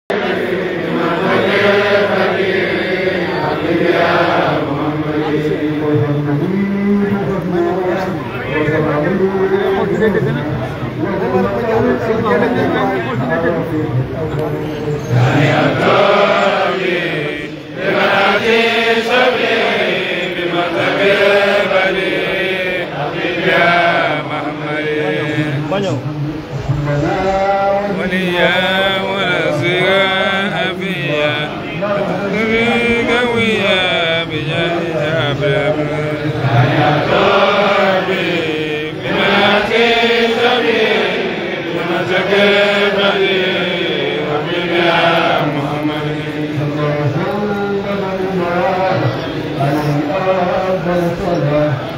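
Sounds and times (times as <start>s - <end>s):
men chanting together: 0.1s - 8.0s, 15.2s - 25.8s, 26.9s - 51.3s.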